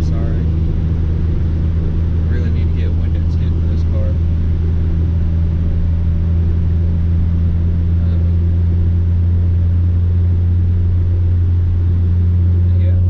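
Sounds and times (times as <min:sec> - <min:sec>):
car engine drone: 0:00.0 - 0:13.0
wind and road noise: 0:00.0 - 0:13.0.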